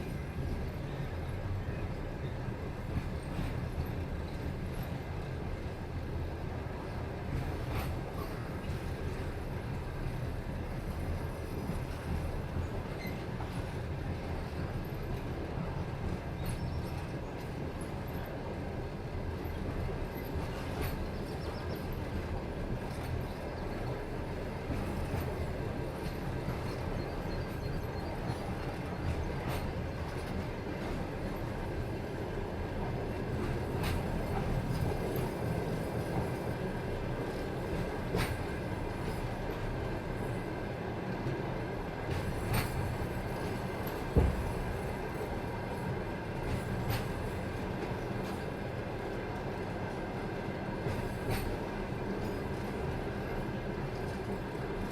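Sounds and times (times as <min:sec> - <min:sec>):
train rolling on rails: 0:00.0 - 0:54.9.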